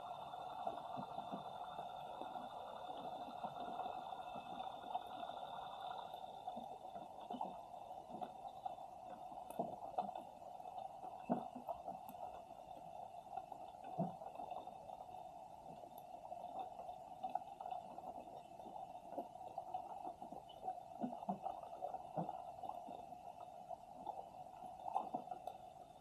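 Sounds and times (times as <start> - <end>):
underwater hum: 0.0 - 26.0.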